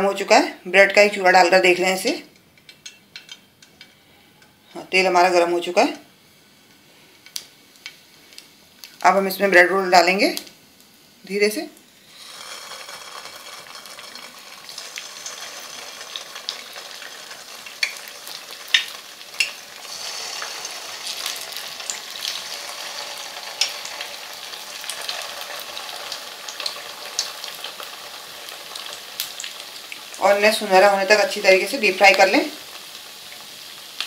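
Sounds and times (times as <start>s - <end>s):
hot oil sizzling: 0.0s - 34.0s.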